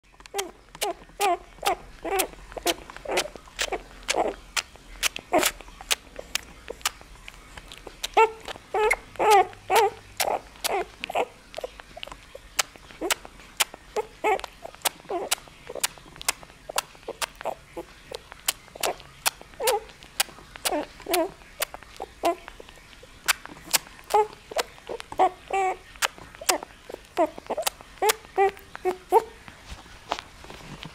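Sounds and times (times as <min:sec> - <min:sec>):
puppy whimpering and squeaking: 0:00.2 - 0:29.4.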